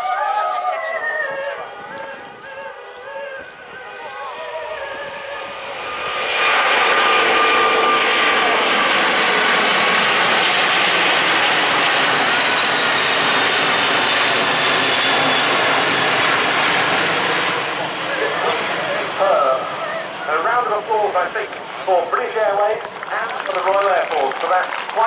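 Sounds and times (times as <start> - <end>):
jet engine roar overhead: 0.0 - 25.0.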